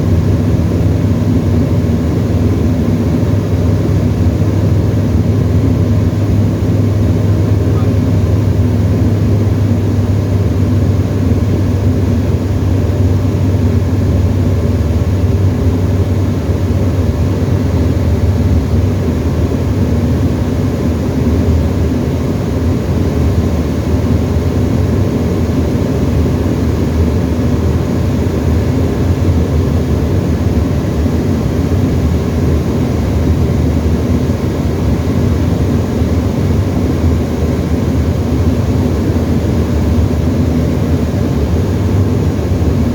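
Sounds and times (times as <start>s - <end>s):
light aircraft engine and propeller: 0.0s - 42.9s.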